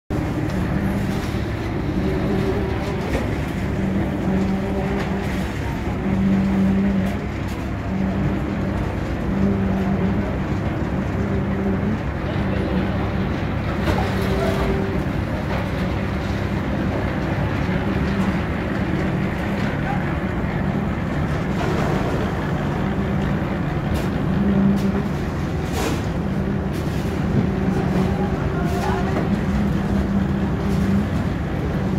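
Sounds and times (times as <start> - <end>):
concrete mixer engine running: 0.1 - 31.9
construction machinery drone: 0.1 - 31.9.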